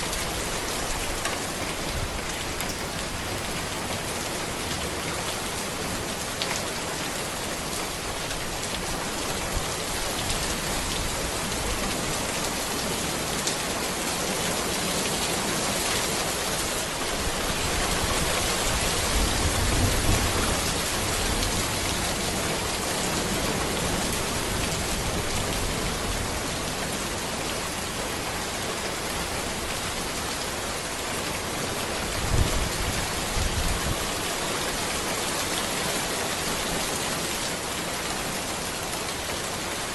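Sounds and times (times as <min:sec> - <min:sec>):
rain falling on road and trees: 0:00.0 - 0:39.9.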